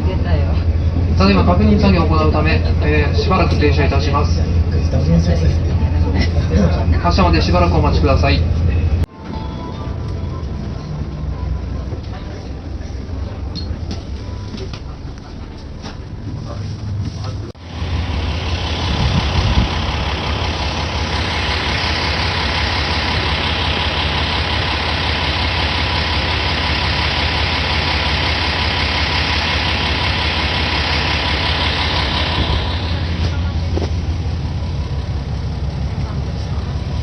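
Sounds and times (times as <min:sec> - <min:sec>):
diesel engine idling: 0:00.0 - 0:37.0
engine rumble: 0:00.0 - 0:37.0.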